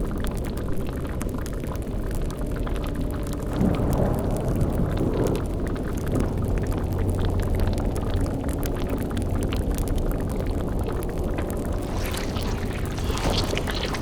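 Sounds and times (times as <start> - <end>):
liquid bubbling in a cauldron: 0.0 - 14.0.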